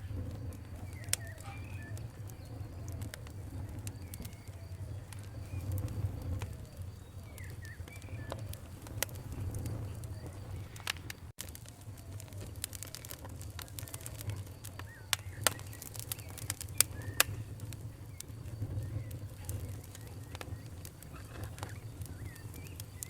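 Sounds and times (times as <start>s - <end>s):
campfire crackling and popping: 0.0s - 23.0s
birds calling: 0.2s - 11.1s, 13.6s - 23.0s.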